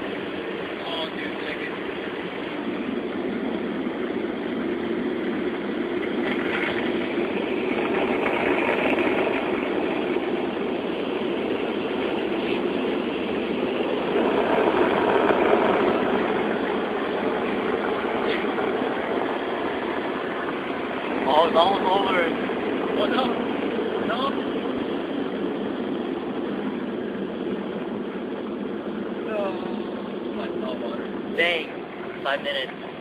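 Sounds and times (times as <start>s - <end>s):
car wash machinery rushing: 0.0s - 33.0s.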